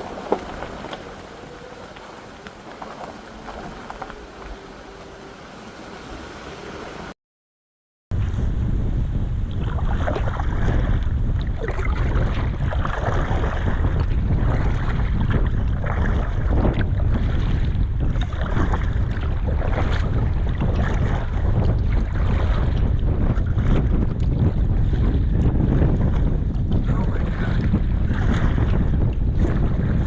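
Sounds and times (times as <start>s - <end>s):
wind buffeting microphone: 0.0s - 6.7s, 8.1s - 30.0s.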